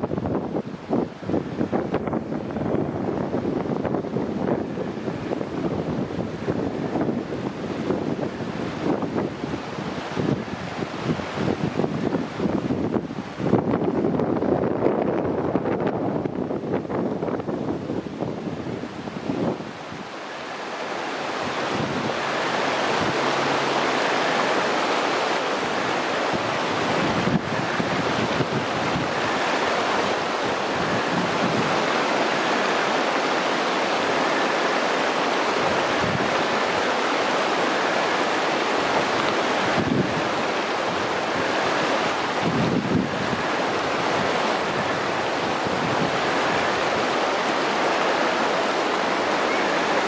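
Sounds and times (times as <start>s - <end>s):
river rushing over stones: 0.0s - 50.0s
wind buffeting microphone: 0.0s - 50.0s.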